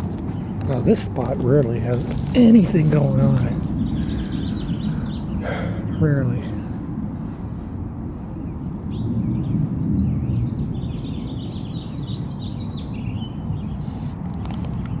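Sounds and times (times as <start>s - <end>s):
low rumbling noise: 0.0s - 13.8s
small birds chirping: 0.0s - 15.0s.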